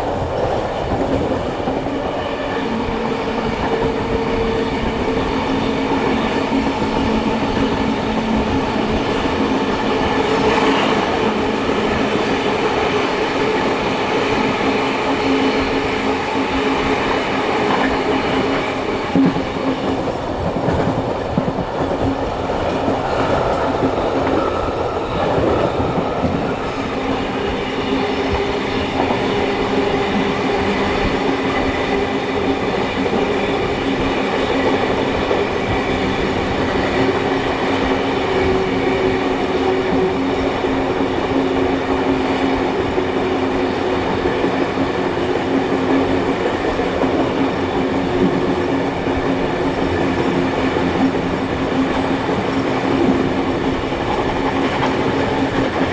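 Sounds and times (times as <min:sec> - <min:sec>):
clickety-clack of wheels: 0:00.0 - 0:55.9
train wheels rumbling on rails: 0:00.0 - 0:55.9.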